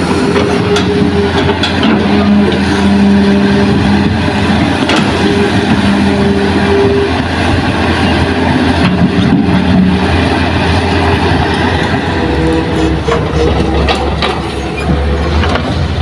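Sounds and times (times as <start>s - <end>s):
diesel engine of earthmoving machine: 0.0s - 16.0s.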